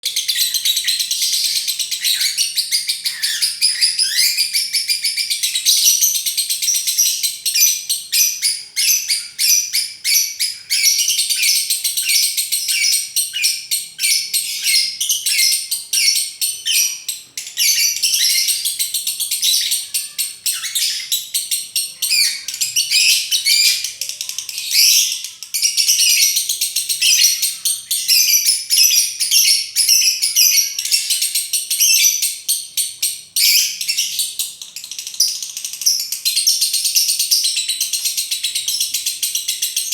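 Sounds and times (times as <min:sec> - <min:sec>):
bird chattering and trilling: 0:00.1 - 0:39.9.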